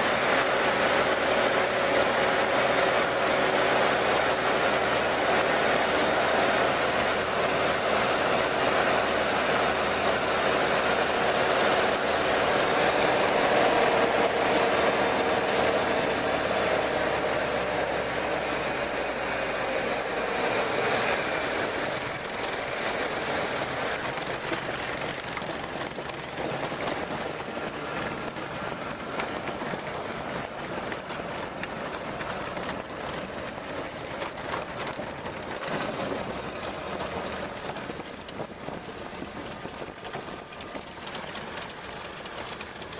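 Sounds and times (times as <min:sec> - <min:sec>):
aircraft radial engine running: 0:00.0 - 0:42.9.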